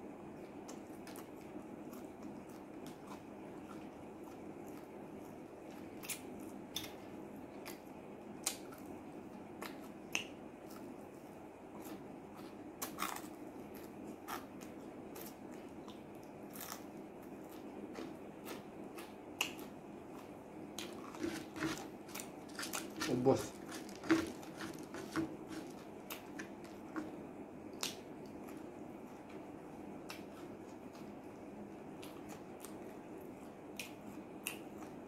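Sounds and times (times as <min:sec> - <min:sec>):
low background hum: 0:00.0 - 0:35.0
biting and chewing: 0:00.5 - 0:35.0.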